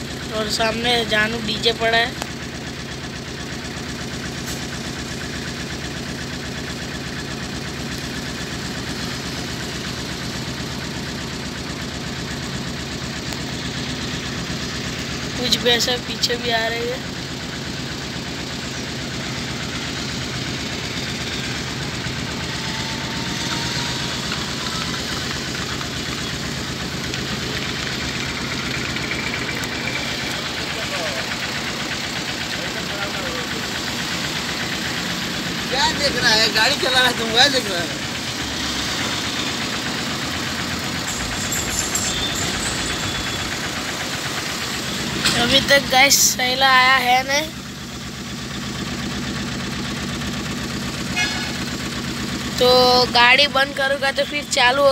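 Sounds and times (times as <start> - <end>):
vehicle engine idling: 0.0 - 54.9.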